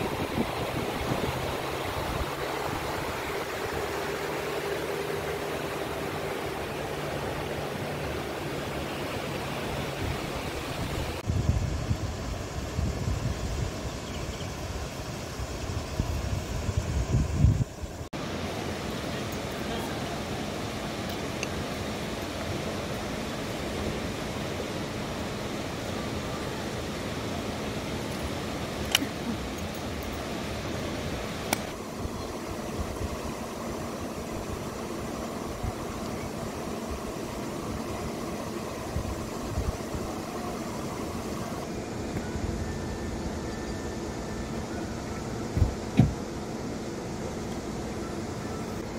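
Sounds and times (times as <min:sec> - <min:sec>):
steady rushing background noise: 0:00.0 - 0:48.9.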